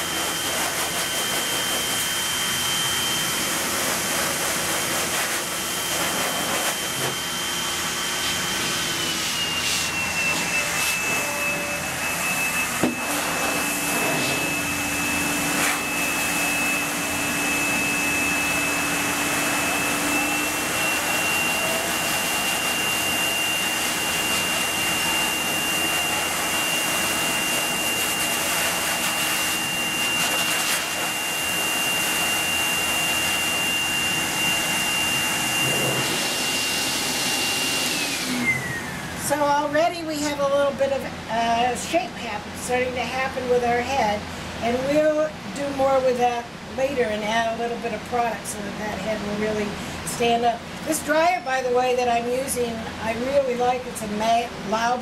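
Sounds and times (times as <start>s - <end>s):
pet dryer blowing air: 0.0s - 52.2s.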